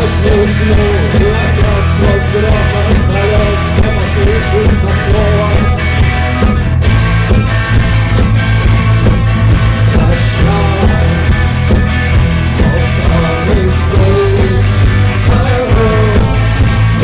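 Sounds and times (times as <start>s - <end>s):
drums beating: 0.0s - 17.0s
rock band playing: 0.0s - 17.0s.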